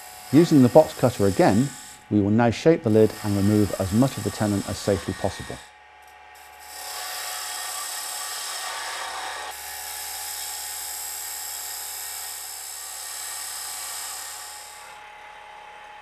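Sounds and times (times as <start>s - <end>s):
wood lathe cutting hiss: 0.0s - 5.7s, 6.4s - 15.0s.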